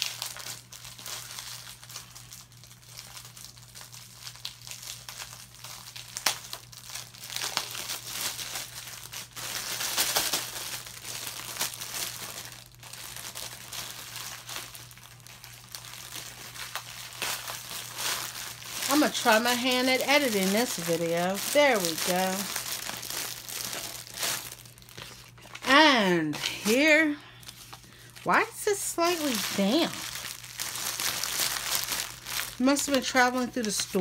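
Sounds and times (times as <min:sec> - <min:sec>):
parcel wrapping crinkling: 0:00.0 - 0:34.0.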